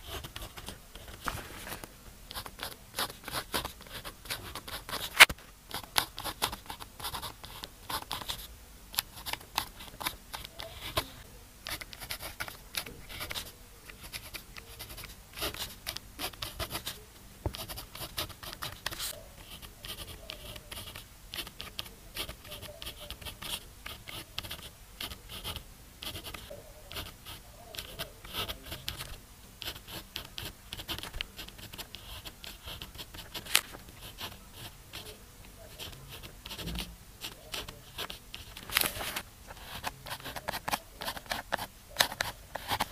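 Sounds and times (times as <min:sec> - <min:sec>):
pen scratching on paper: 0:00.0 - 0:42.9.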